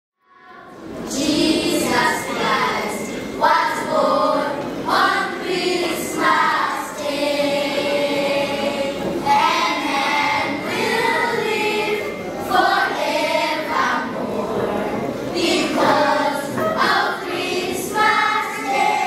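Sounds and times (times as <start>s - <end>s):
children's choir singing: 0.2s - 19.0s.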